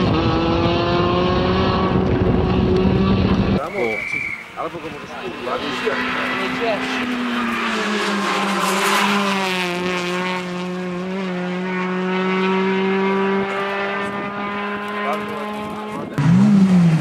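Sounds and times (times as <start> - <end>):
car engine passing at speed: 0.0 - 3.6, 4.4 - 17.0.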